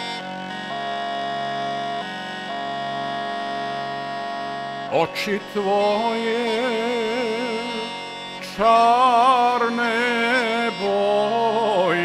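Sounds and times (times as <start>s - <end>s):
bagpipe melody over drone: 0.0s - 12.0s.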